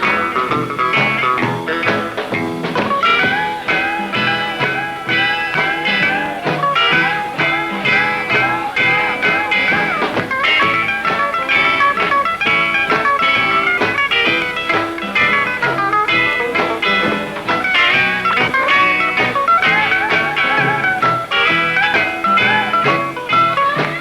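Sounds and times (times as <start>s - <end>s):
band backing: 0.0s - 24.0s
fast lead guitar: 0.0s - 24.0s.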